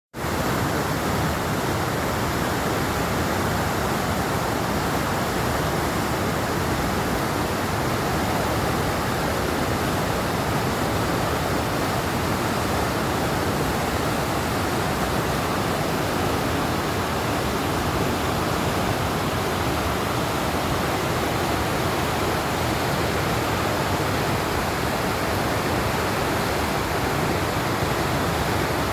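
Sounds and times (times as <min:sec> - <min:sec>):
river rushing over rocks: 0:00.2 - 0:28.9.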